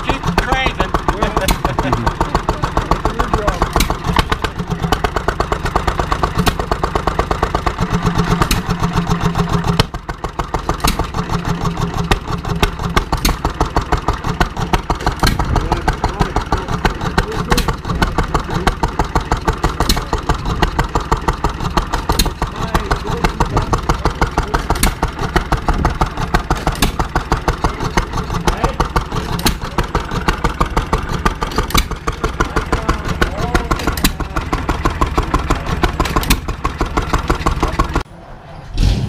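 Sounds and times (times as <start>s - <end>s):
stationary gas engine running: 0.0s - 38.1s.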